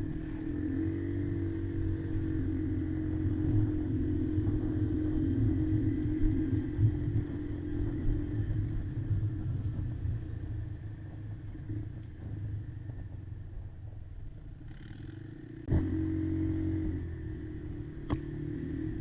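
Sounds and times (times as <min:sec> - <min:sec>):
low rumble from ride: 0:00.0 - 0:19.0
quad bike engine running: 0:00.0 - 0:19.0.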